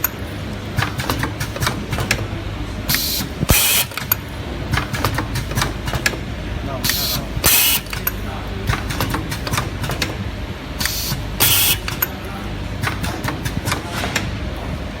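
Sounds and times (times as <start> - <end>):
mechanical clicks and clacks: 0.0 - 12.2, 12.8 - 14.6.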